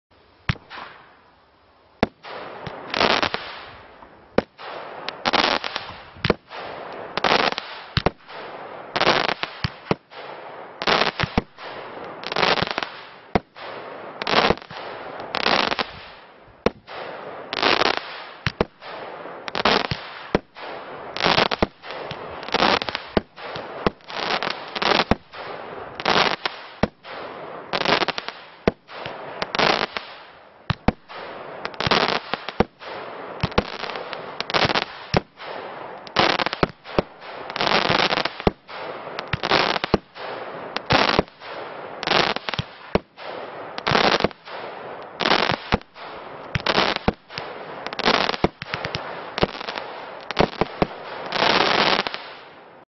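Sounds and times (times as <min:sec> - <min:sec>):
firework bangs with crackling hiss: 0:00.4 - 0:01.3, 0:01.9 - 0:52.6.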